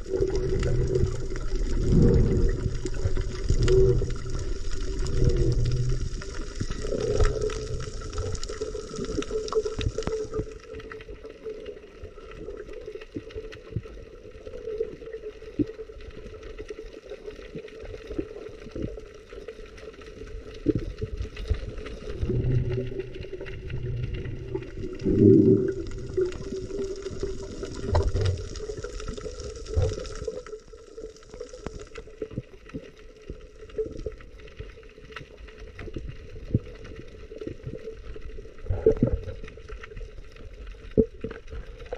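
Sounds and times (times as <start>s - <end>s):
water sloshing and gurgling: 0.0s - 41.9s.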